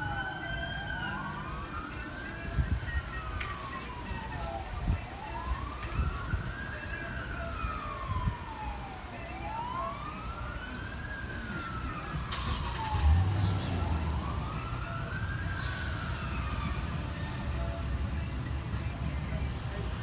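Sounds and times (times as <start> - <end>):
wailing siren: 0.0 - 20.0.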